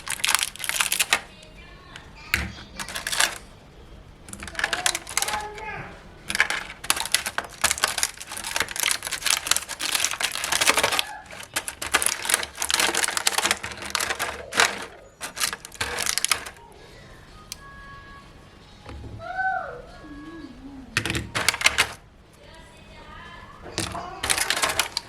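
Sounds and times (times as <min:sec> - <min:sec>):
plastic packaging crackling: 0:00.0 - 0:03.6, 0:04.2 - 0:16.8, 0:21.0 - 0:25.0
faint steady tones: 0:00.0 - 0:25.0.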